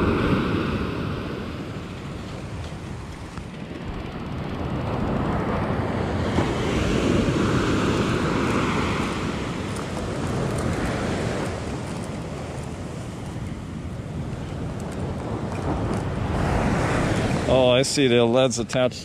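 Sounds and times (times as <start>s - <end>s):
wind buffeting microphone: 0.0s - 18.9s
ocean surf breaking on sand: 0.0s - 19.0s.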